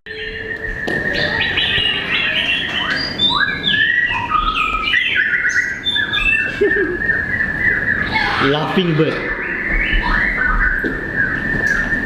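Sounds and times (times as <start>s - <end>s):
songbirds chirping and whistling: 0.1s - 12.0s.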